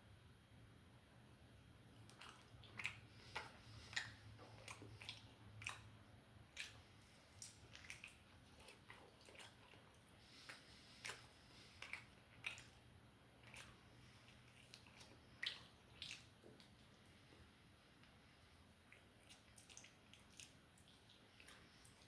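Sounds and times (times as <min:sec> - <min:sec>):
person chewing food: 0:02.0 - 0:22.0.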